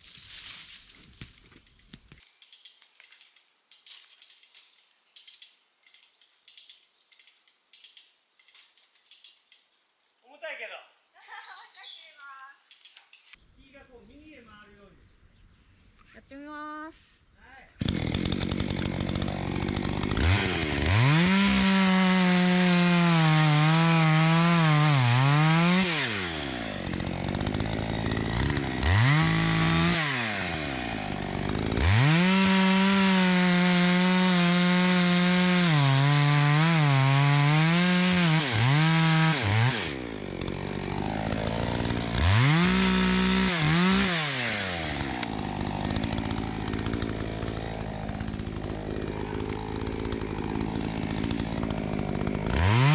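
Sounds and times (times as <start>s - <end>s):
chainsaw cutting wood: 0.0s - 9.7s, 17.8s - 52.9s.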